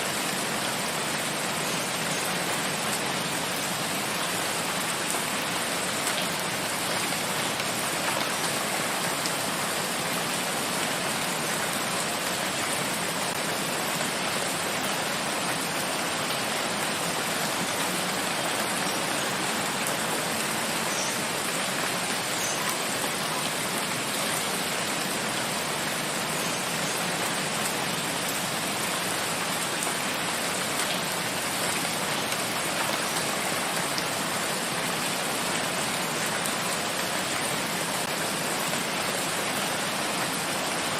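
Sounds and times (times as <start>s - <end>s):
steady rain in forest: 0.0s - 40.9s.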